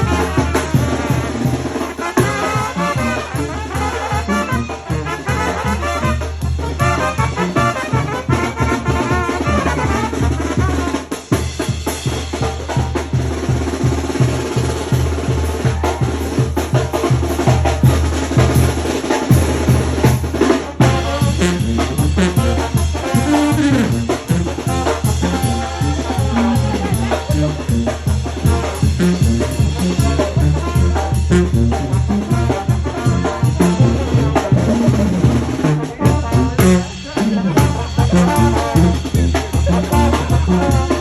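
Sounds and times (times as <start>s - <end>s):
brass playing: 0.0s - 41.0s
drum beat: 0.0s - 41.0s.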